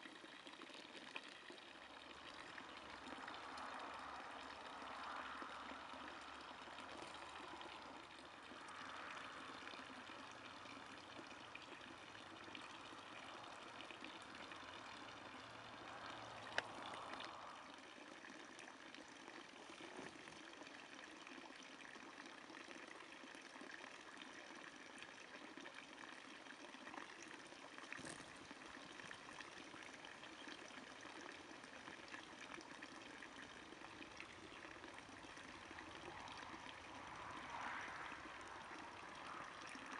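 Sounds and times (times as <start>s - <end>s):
water trickling into trough: 0.0s - 39.9s.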